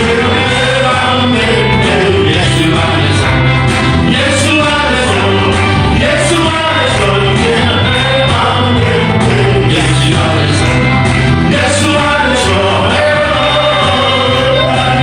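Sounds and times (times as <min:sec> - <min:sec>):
band playing bass and drums: 0:00.0 - 0:15.0
vocal ensemble singing gospel: 0:00.0 - 0:15.0.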